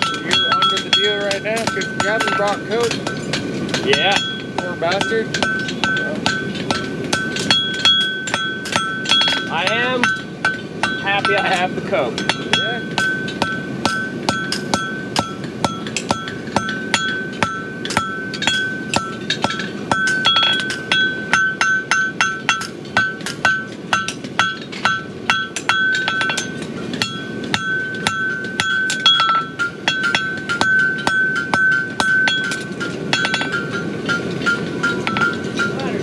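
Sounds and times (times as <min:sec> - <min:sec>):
anvil ringing: 0:00.0 - 0:36.0
hammer striking hot metal: 0:00.0 - 0:36.0.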